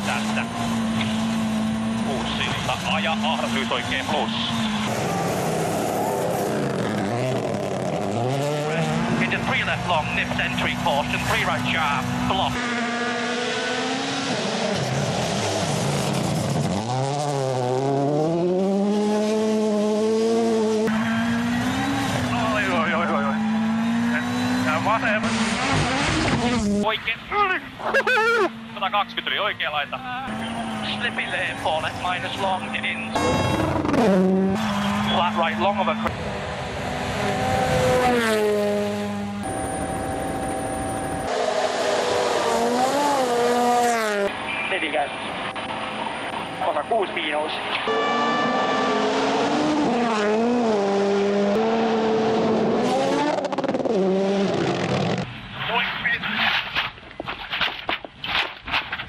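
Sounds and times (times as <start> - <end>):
rally car engine at full throttle: 0.0 - 57.6.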